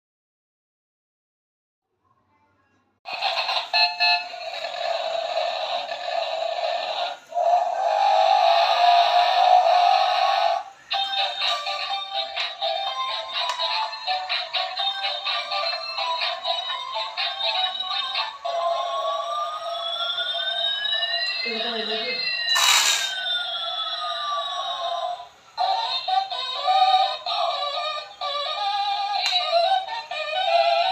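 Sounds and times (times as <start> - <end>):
tinny electronic toy music: 3.1 - 30.9.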